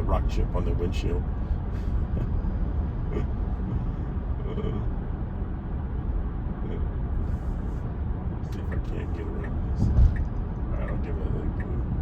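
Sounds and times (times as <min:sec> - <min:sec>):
road and tyre rumble in car: 0:00.0 - 0:12.0.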